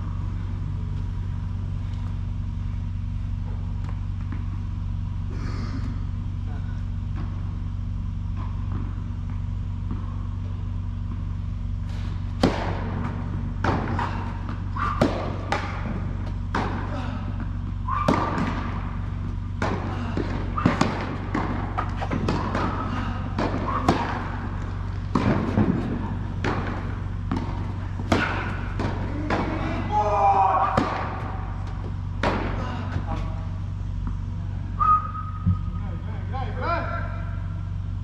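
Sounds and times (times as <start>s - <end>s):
low hum: 0.0s - 38.0s.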